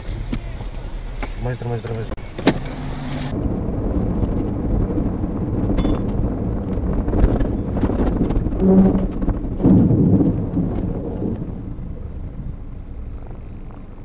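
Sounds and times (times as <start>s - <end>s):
car road and wind noise: 0.0s - 14.0s
low hum: 2.0s - 14.0s.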